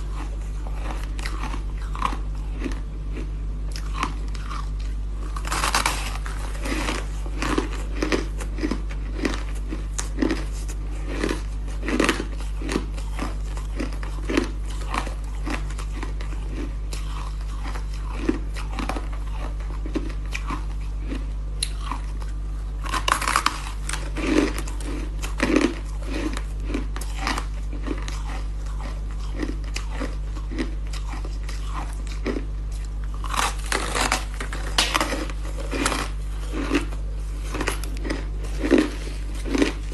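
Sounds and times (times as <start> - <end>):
constant low hum: 0.0 - 39.9
ice being chewed: 0.0 - 39.9.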